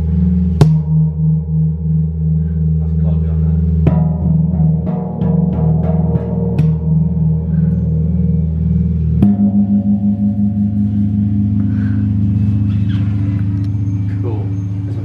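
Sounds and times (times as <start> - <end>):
deep metallic ringing tones: 0.0 - 15.0.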